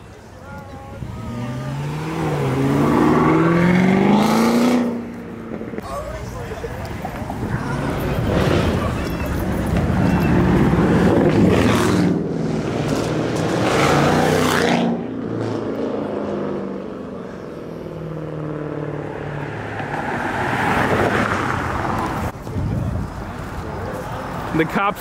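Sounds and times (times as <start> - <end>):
cars pulling out: 0.0 - 25.0
car engines accelerating past: 1.0 - 5.8, 7.0 - 22.3.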